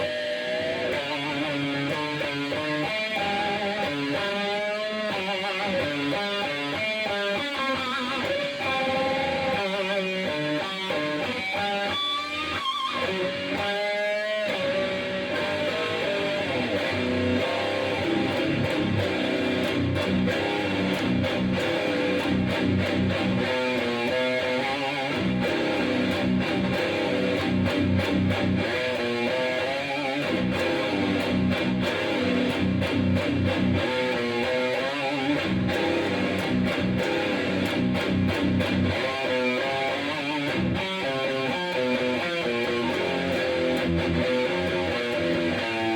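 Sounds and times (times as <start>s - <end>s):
distorted electric guitar riffs: 0.0s - 45.9s.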